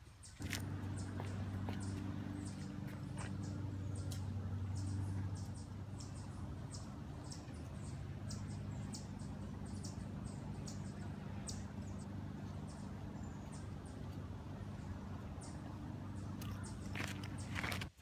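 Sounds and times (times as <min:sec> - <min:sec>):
small birds chirping: 0:00.0 - 0:18.0
steady low rumble: 0:00.4 - 0:17.9.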